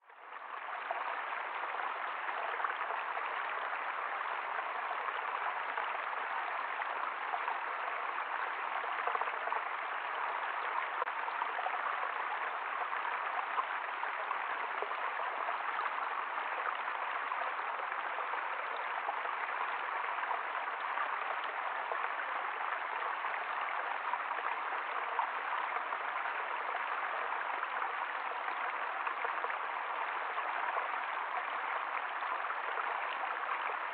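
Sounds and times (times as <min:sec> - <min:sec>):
stream water rushing: 0:00.2 - 0:33.9.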